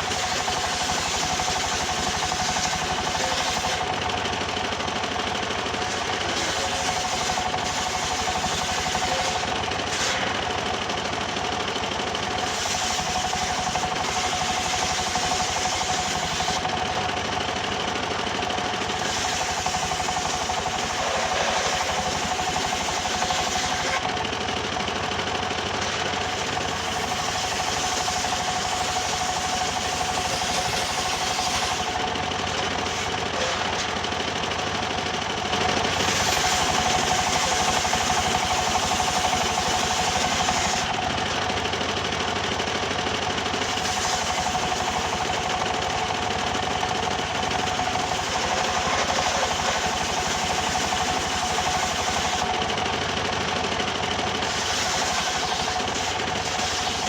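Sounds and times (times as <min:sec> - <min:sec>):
engine-driven wood saw whine: 0:00.0 - 0:57.0.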